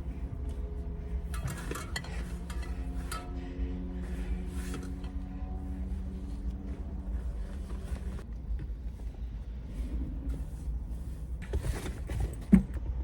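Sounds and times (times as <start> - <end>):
car rumble: 0.0 - 13.0.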